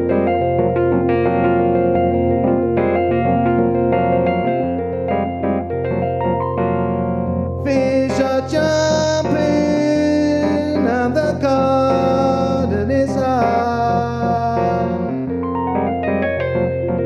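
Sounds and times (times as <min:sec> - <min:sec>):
chromatic harmonica jazz melody: 0:00.0 - 0:17.0
keyboard accompaniment: 0:00.0 - 0:17.0.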